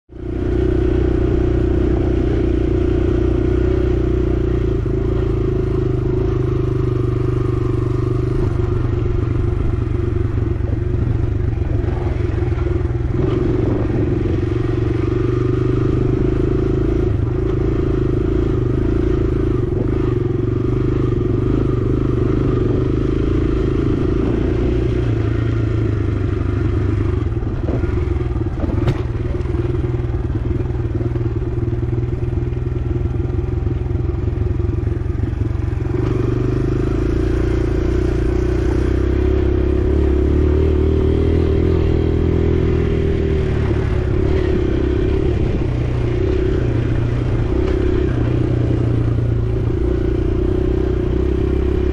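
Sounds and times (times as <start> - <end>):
dirt bike engine running: 0.1 - 51.9.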